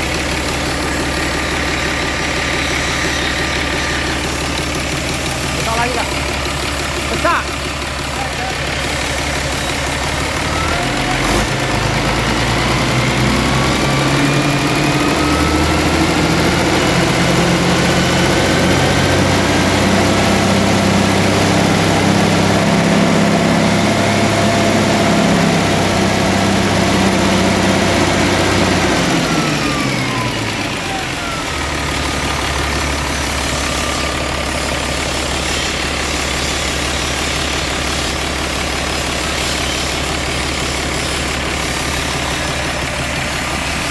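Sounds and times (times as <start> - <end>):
diesel engine revving and idling: 0.0 - 43.9.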